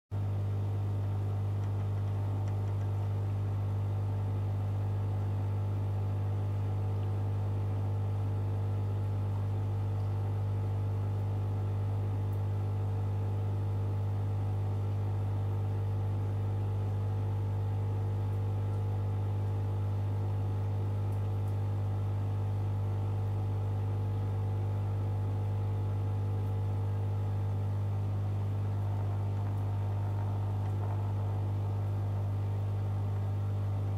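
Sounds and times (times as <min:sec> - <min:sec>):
low electrical hum: 0:00.1 - 0:33.9.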